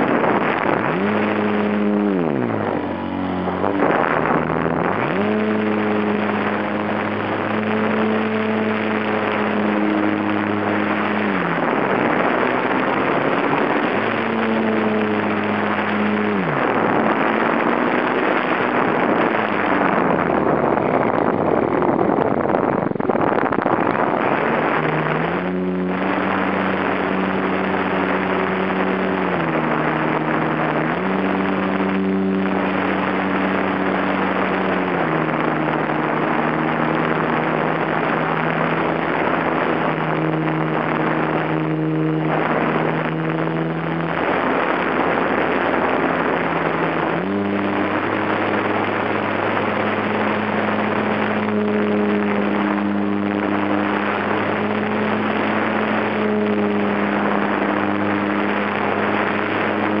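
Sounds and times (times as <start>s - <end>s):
electric motor and propeller whining: 0.0s - 60.0s.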